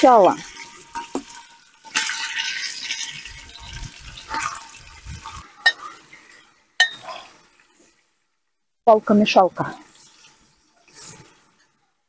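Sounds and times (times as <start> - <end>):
chicken frying in hot oil: 0.0 - 8.2, 8.9 - 12.0.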